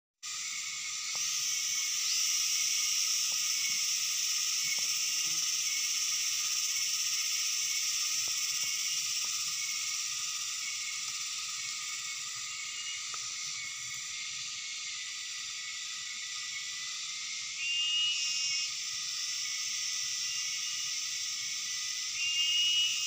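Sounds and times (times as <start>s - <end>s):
high-pitched insect chorus: 0.2s - 23.0s.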